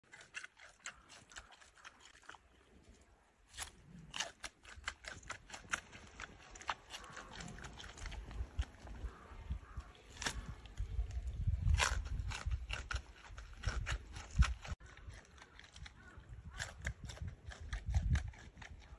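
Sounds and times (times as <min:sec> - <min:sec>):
panda chewing and crunching: 0:00.0 - 0:18.9.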